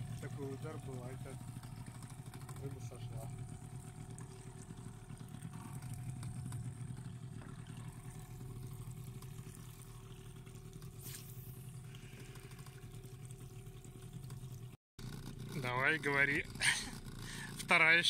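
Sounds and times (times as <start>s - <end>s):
boat motor droning: 0.0s - 18.0s.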